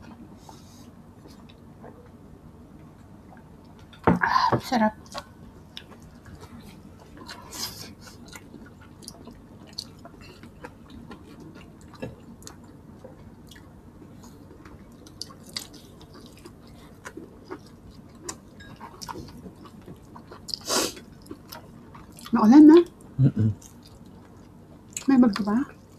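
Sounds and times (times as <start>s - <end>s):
people chewing food: 5.0s - 25.9s.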